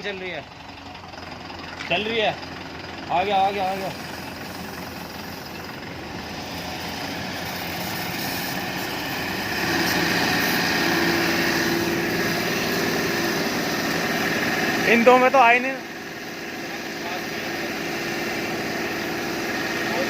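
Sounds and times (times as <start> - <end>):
sprinkler truck engine and pump: 0.0 - 20.0.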